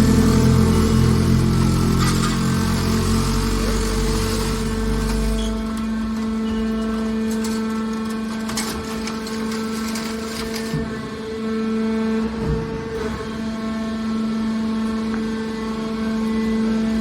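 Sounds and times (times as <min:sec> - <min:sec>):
hydraulic unit humming: 0:00.0 - 0:17.0.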